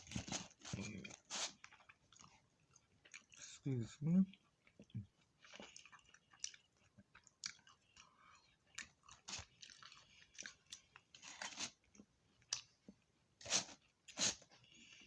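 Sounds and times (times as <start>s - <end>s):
person chewing and crunching food: 0.0s - 3.7s, 4.3s - 15.0s.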